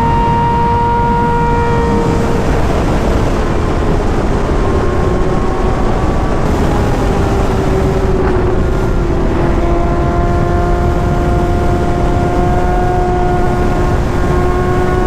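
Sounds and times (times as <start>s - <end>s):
motorcycle engine: 0.0s - 15.0s
wind rush on microphone: 0.0s - 15.0s.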